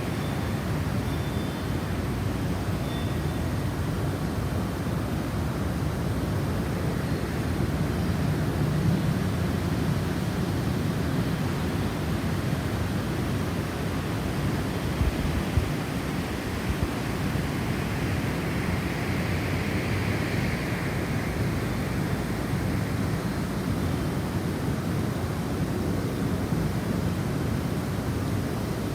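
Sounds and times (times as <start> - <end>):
snowstorm wind blowing: 3.5 - 28.9.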